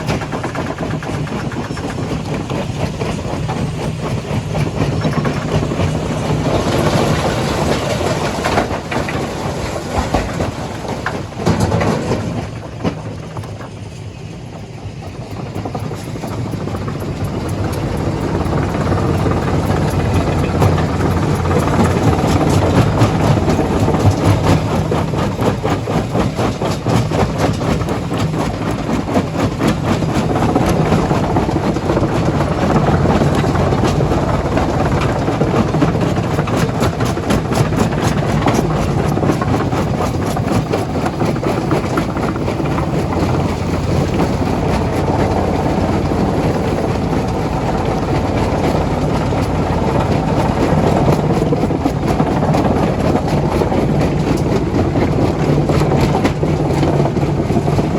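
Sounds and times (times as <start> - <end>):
continuous machinery clatter: 0.0 - 57.9
low engine drone: 0.0 - 57.9.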